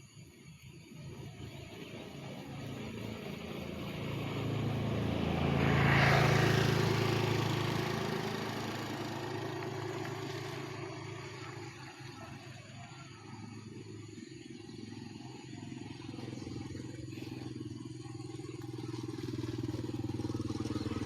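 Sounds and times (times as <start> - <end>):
motor vehicle driving past: 0.8 - 21.0.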